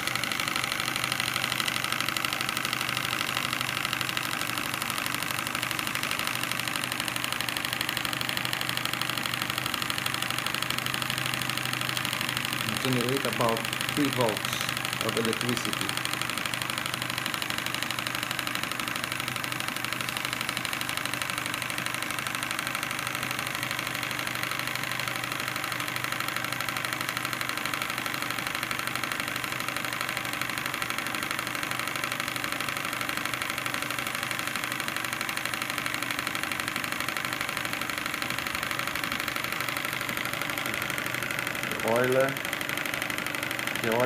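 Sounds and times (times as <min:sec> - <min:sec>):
steam engine running: 0:00.0 - 0:44.0.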